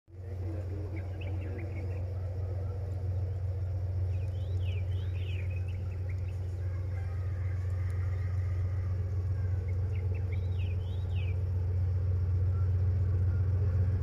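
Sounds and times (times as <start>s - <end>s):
locomotive engine rumble: 0.1s - 14.0s
small birds chirping: 0.1s - 14.0s.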